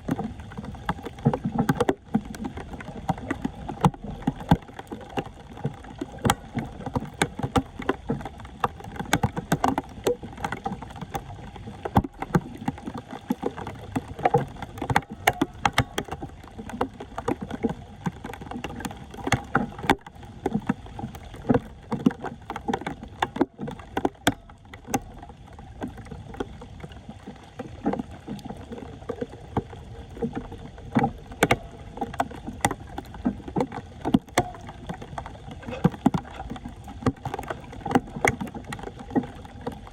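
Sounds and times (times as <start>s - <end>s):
floodwater splashing and sloshing: 0.0s - 39.9s.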